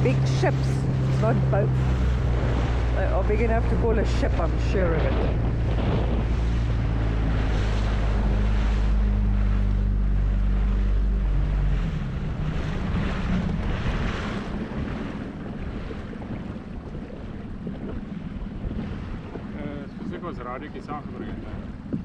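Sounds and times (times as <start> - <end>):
outboard motor running: 0.0 - 22.0
water rushing past hull: 0.0 - 22.0
wind on microphone: 0.0 - 22.0.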